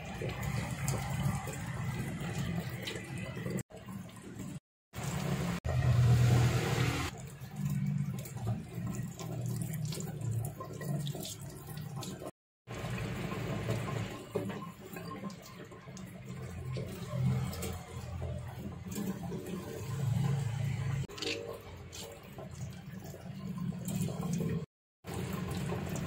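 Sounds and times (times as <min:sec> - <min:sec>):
tap water running onto vegetables: 0:00.0 - 0:20.6, 0:21.5 - 0:26.0.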